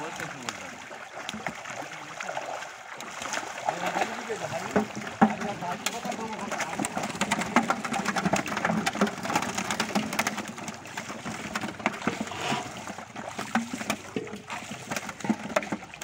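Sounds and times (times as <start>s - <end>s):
fish splashing in water: 0.0s - 16.0s.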